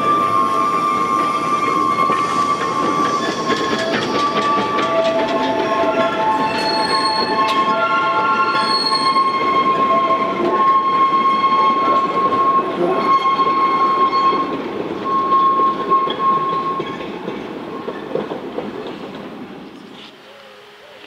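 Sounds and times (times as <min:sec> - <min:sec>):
high-pitched flange squeal: 0:00.0 - 0:17.0
train wheels rumbling: 0:00.0 - 0:20.0.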